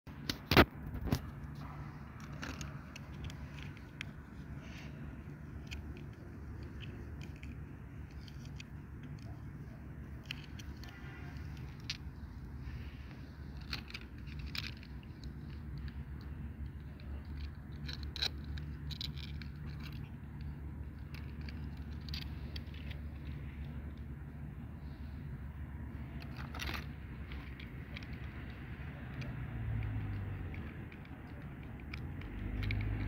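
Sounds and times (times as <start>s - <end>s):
steady low hum: 0.1s - 33.0s.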